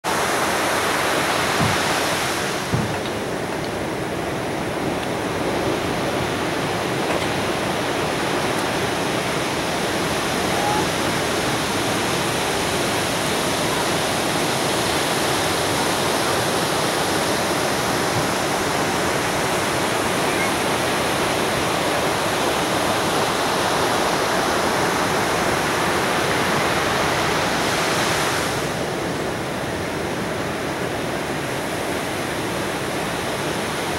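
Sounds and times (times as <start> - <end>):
ocean surf breaking: 0.0 - 33.9.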